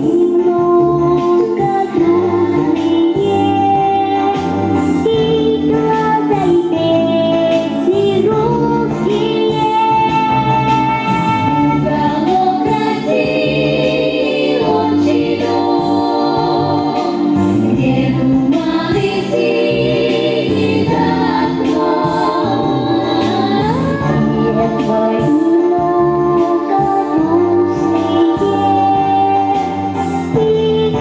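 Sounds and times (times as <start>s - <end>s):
instrumental accompaniment: 0.0s - 31.0s
voices singing: 0.0s - 31.0s.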